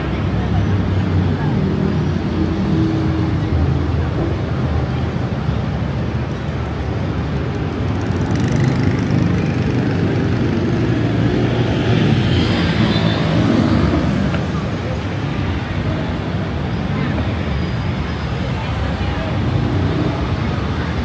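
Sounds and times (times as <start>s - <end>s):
passing cars and engines: 0.0s - 21.0s.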